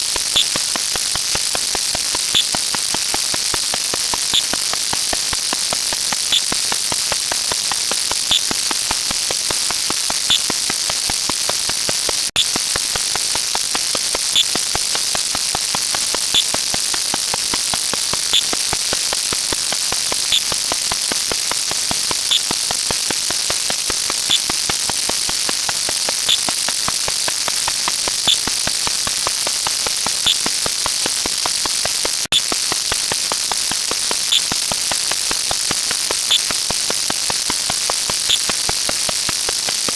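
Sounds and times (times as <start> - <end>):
hissing crackling static: 0.0 - 39.9.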